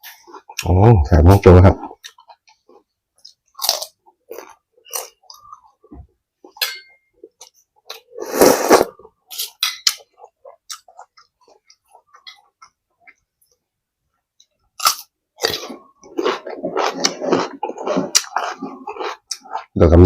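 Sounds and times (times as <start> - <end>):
person chewing food: 0.0 - 0.8, 1.4 - 20.0.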